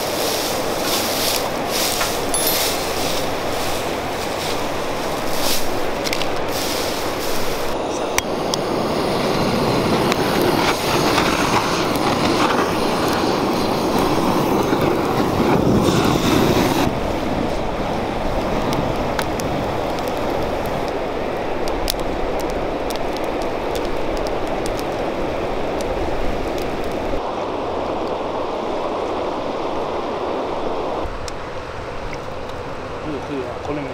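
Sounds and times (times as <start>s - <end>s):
fire crackling and popping: 0.0s - 30.0s
straw fire rushing: 0.0s - 33.8s.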